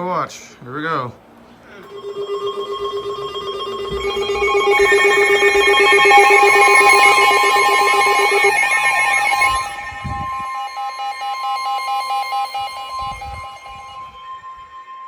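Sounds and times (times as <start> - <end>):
weather alert radio beeps: 1.9 - 14.2
warbling alarm tone: 1.9 - 15.0.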